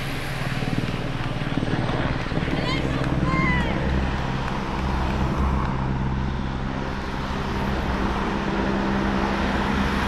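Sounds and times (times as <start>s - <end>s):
cars driving past: 0.0s - 10.0s
low engine drone: 0.0s - 10.0s.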